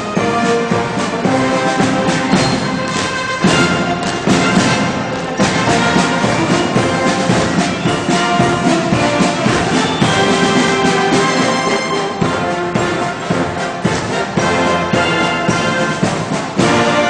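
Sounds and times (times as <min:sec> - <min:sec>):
band playing brass and drums: 0:00.0 - 0:17.0.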